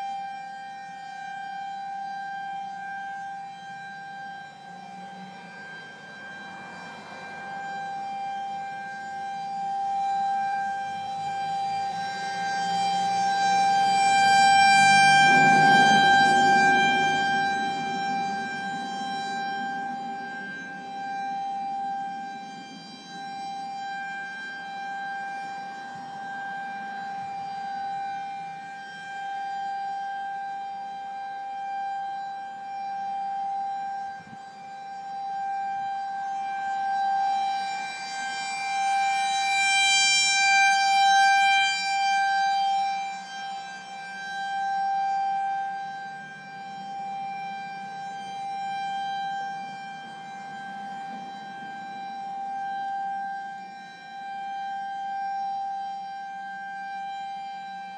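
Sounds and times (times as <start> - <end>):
warning siren wailing: 0.0 - 57.9.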